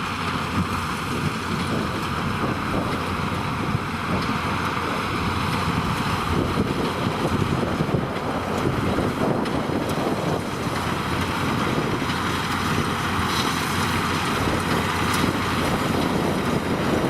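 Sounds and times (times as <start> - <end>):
tractors and machinery running: 0.0 - 17.0
wind buffeting microphone: 0.0 - 17.0.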